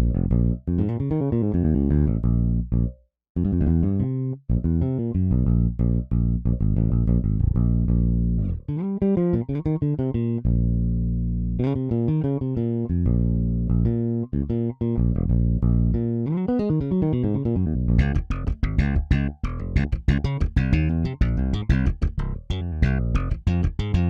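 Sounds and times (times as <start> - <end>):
funk electric bass line: 0.0 - 24.0.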